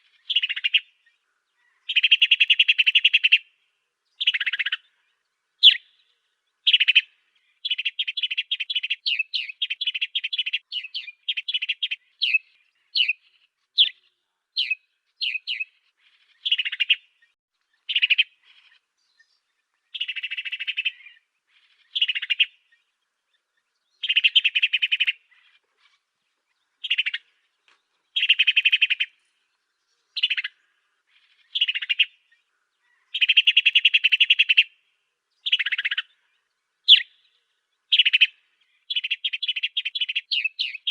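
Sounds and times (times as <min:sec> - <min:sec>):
bird chirping: 0:00.0 - 0:40.9
buzzy bird song phrases: 0:00.0 - 0:40.9.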